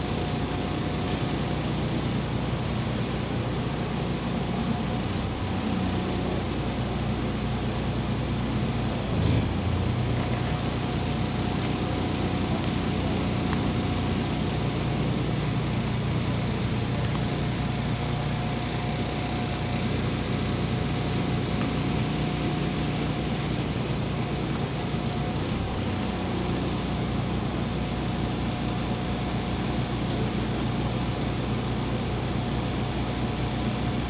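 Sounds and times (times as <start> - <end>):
bus engine droning: 0.0 - 34.0
faint steady whine: 0.0 - 34.0
road and cabin noise: 0.0 - 34.0.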